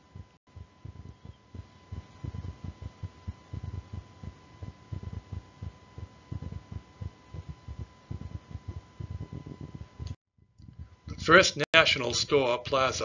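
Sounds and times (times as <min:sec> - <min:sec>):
irregular low thumping: 0:00.1 - 0:11.0.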